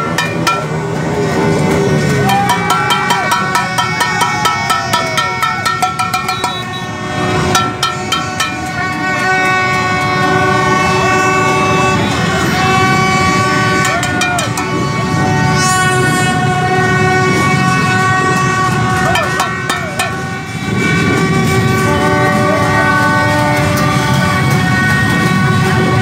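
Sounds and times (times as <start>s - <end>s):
many horns sounding: 0.0s - 26.0s
rapid banging or drumming: 0.0s - 26.0s.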